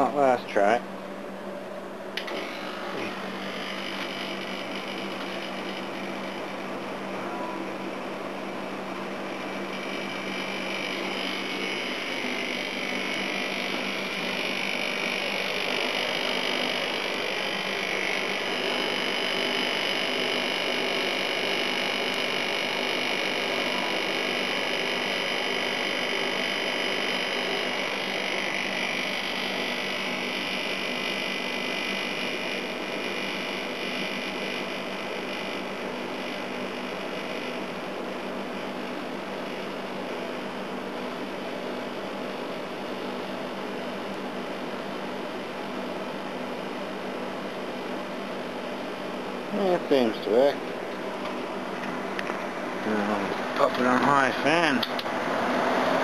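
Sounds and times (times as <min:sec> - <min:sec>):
compressor hum: 0:00.0 - 0:56.0.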